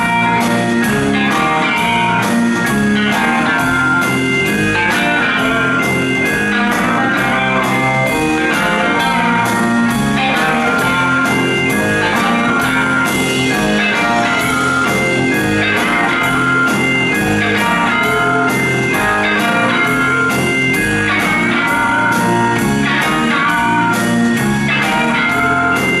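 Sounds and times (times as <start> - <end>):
drums with steady beat: 0.0 - 26.0
electric guitars: 0.0 - 26.0.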